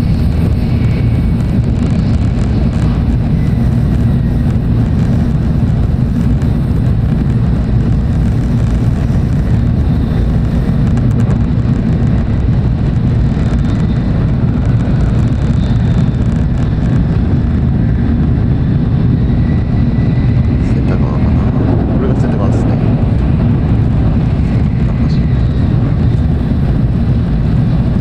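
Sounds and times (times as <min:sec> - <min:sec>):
train rumbling inside passenger car: 0:00.0 - 0:28.0.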